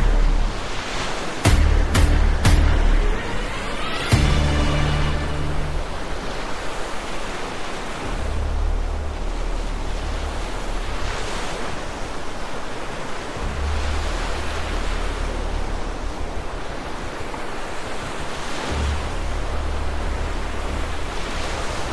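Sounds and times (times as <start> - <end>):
flood water rushing: 0.0 - 21.9.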